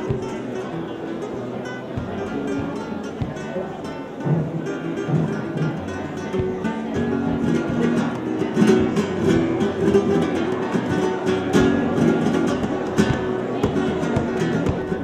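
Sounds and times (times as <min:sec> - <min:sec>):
plucked guitar melody: 0:00.0 - 0:15.0
strummed guitar chords: 0:00.0 - 0:15.0.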